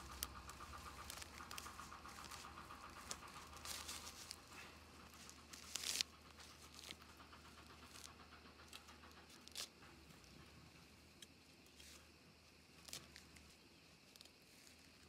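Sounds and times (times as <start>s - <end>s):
plant stems rustling: 0.0s - 9.7s, 11.6s - 15.0s.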